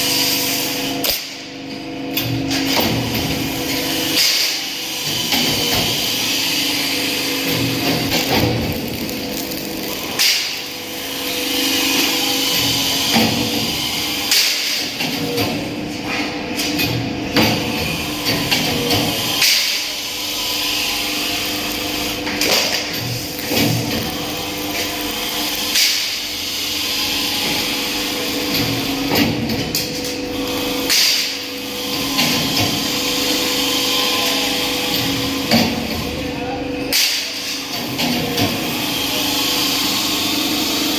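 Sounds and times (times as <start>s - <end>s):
machine humming: 2.0s - 36.9s.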